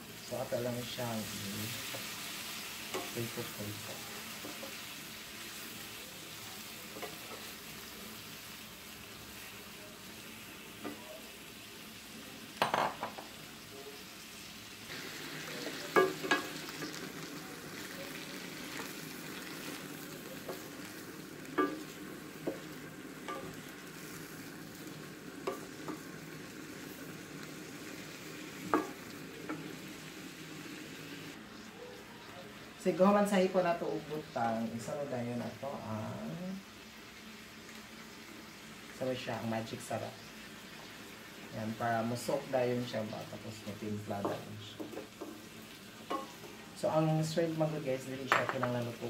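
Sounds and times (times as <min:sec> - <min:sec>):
shrimp sizzling in a wok: 0:00.0 - 0:49.0.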